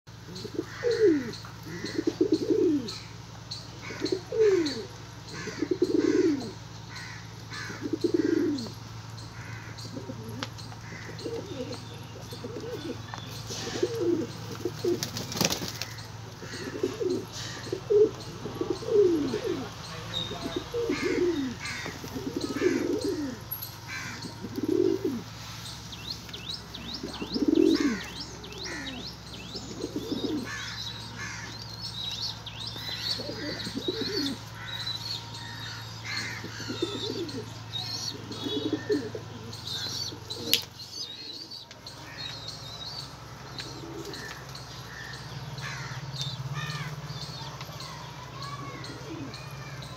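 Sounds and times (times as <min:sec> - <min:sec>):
pigeons cooing: 0:00.1 - 0:25.4, 0:26.4 - 0:49.9.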